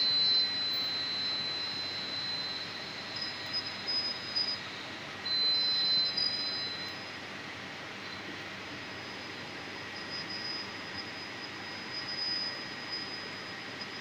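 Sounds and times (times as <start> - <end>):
high-pitched whine: 0.0 - 14.0.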